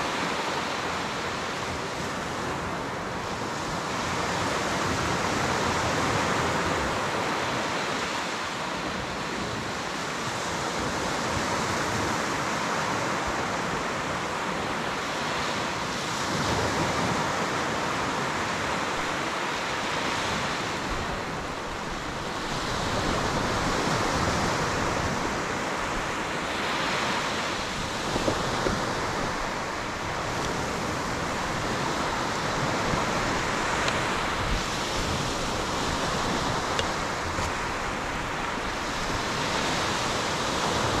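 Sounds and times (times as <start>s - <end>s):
small surf washing up beach: 0.0s - 41.0s.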